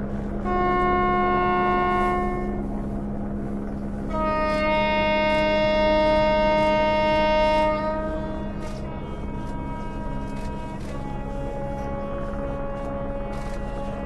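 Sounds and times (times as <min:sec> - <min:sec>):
low steady hum: 0:00.0 - 0:14.0
locomotive horn blasts: 0:00.4 - 0:02.8, 0:04.1 - 0:14.0.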